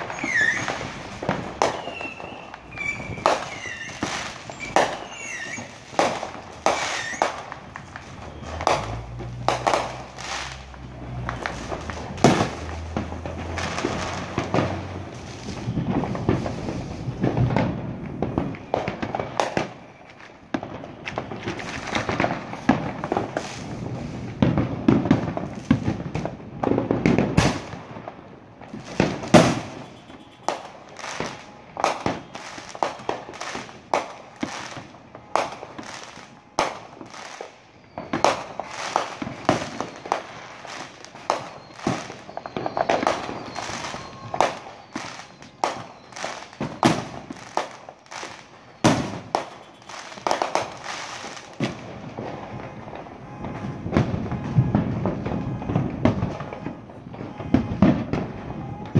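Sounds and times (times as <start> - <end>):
fireworks bursting with bangs: 0.0 - 58.9.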